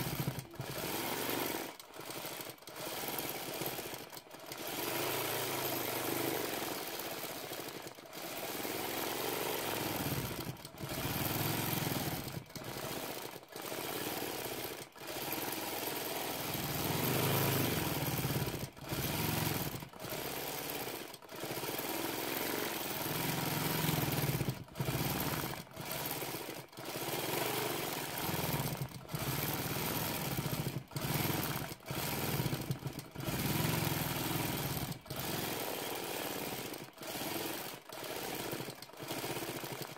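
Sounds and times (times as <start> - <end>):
quilting machine stitching: 0.0 - 39.9.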